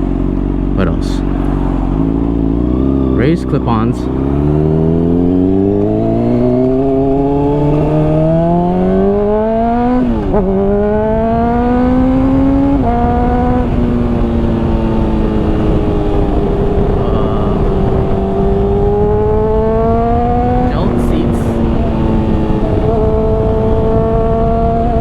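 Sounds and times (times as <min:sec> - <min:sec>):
motorcycle engine accelerating: 0:00.0 - 0:25.0
wind rushing over microphone: 0:01.2 - 0:25.0.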